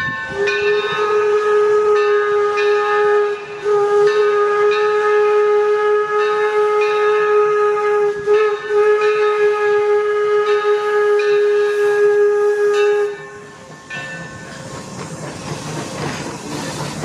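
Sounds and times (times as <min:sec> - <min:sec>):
steam locomotive whistle: 0:00.0 - 0:13.8.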